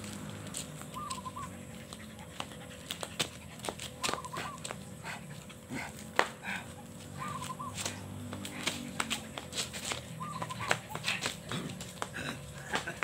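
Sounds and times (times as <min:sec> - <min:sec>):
dog panting: 0:00.6 - 0:12.1.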